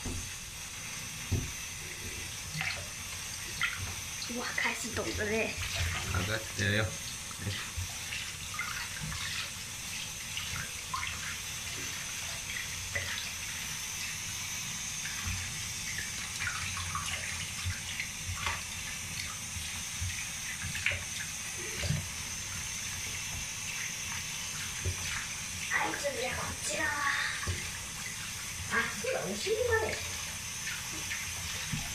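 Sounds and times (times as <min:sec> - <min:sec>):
water running from a tap: 0:00.0 - 0:31.9
water splashing in a basin: 0:02.3 - 0:31.9.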